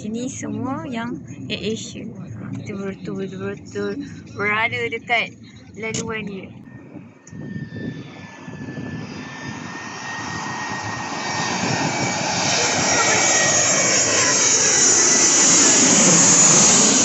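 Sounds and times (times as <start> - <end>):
high engine whine: 0.0 - 17.0
jet airliner passing overhead: 0.0 - 17.0.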